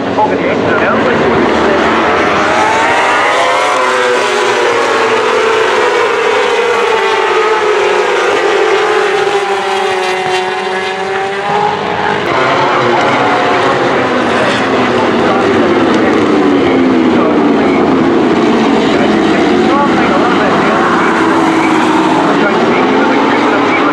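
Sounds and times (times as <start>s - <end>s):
racing motorcycle engines: 0.0s - 23.9s.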